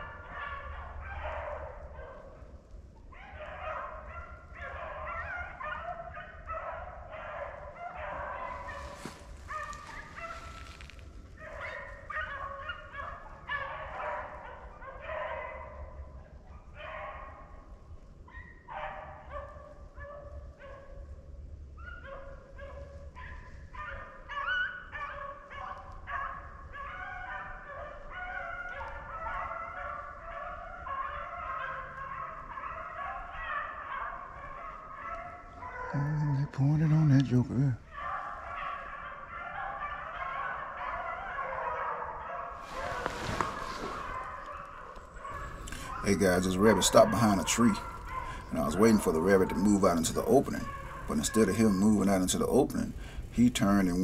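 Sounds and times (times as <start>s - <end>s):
beagles baying: 3.1s - 17.8s, 21.8s - 54.0s.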